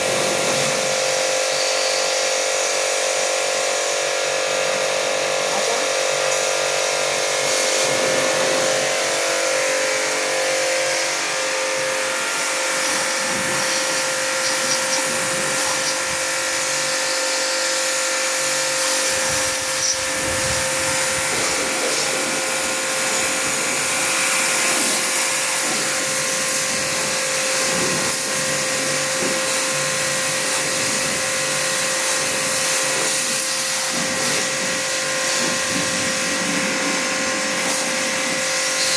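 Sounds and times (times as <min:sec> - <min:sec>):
pressure washer running: 0:00.0 - 0:38.9.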